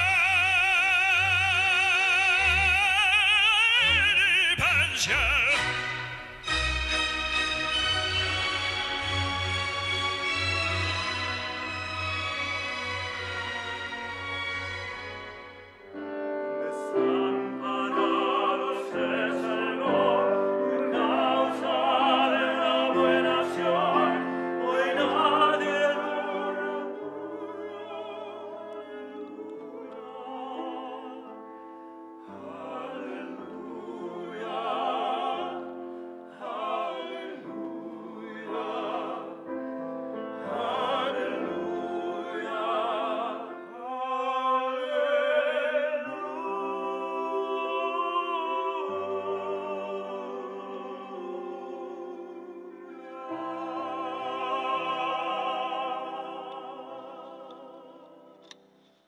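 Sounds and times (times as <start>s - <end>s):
tenors singing operatic harmony: 0.0s - 58.7s
piano accompaniment: 0.0s - 58.8s.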